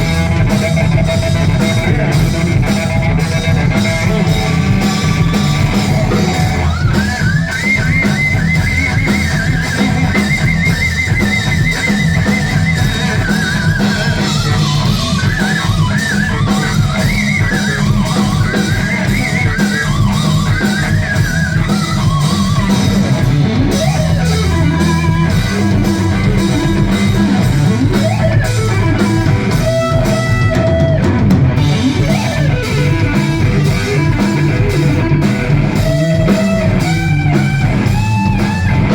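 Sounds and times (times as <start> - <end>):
bass guitar: 0.0 - 38.9
distorted electric guitar lead: 0.0 - 38.9
drums: 0.0 - 38.9.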